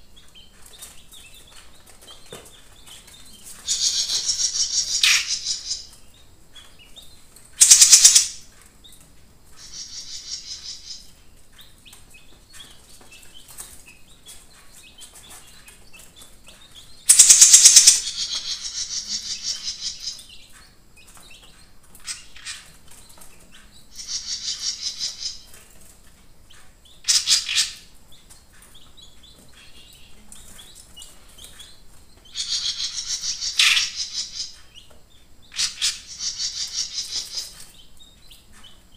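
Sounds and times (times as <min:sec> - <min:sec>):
songbird chattering song: 0:00.0 - 0:38.9.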